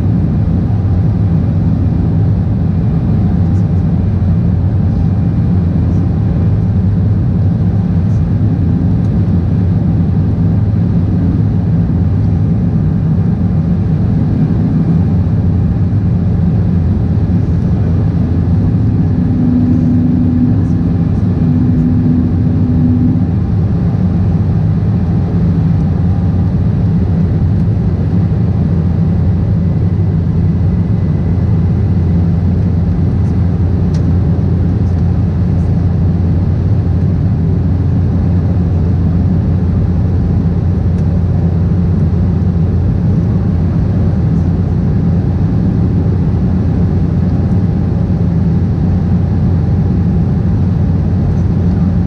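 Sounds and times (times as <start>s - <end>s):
jet engine drone: 0.0s - 52.0s.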